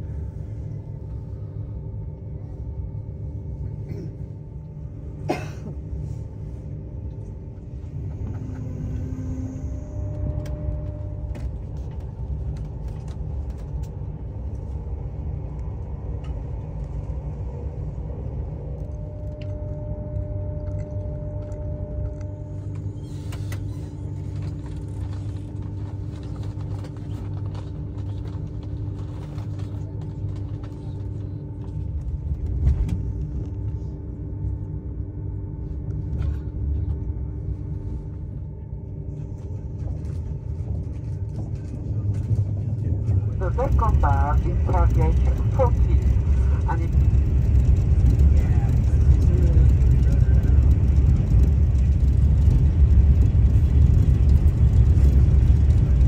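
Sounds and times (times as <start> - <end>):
train rumble: 0.0 - 56.0
faint steady tones: 5.9 - 27.9, 29.0 - 56.0.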